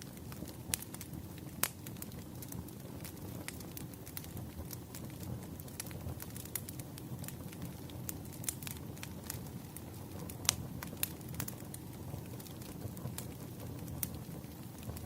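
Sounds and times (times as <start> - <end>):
low rumble of burning logs: 0.0 - 15.0
wood fire crackling and popping: 0.0 - 15.0.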